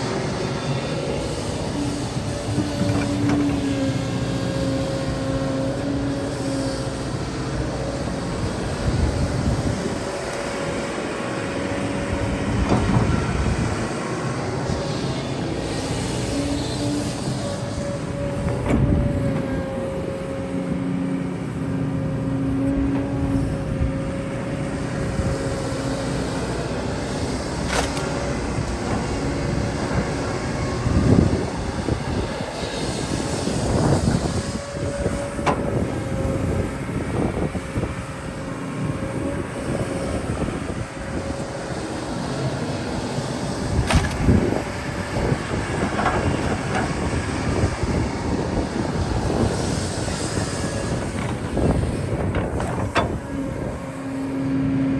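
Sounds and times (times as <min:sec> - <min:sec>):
excavator engine rumble: 0:00.0 - 0:54.9
hydraulic whine: 0:00.0 - 0:54.9.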